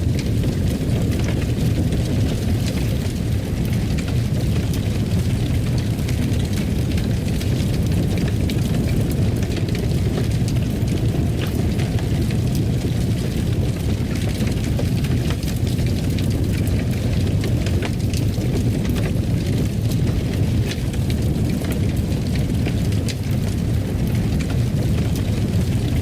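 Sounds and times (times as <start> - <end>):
fire crackles and pops: 0.0 - 26.0
fireplace fire rumbling: 0.0 - 26.0.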